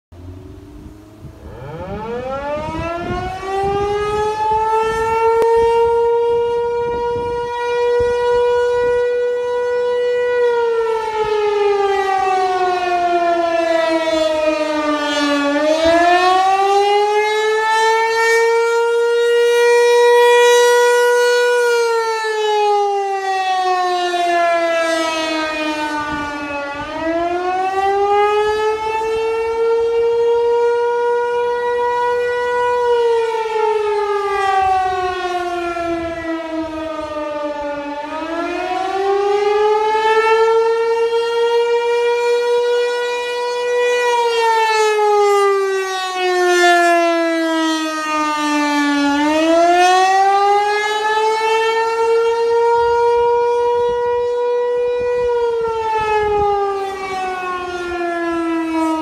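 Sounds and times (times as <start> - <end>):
mechanical siren wailing: 0.2 - 59.0.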